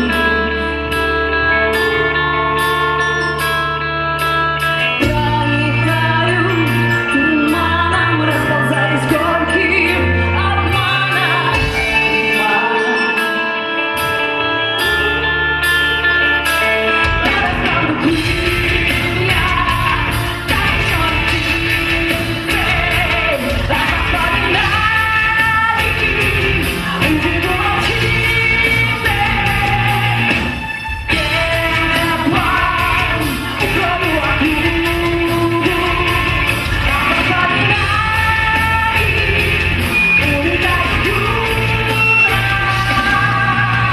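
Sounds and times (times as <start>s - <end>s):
rock band playing live: 0.0s - 43.9s
woman singing: 5.0s - 14.2s, 17.2s - 30.4s, 31.1s - 43.9s.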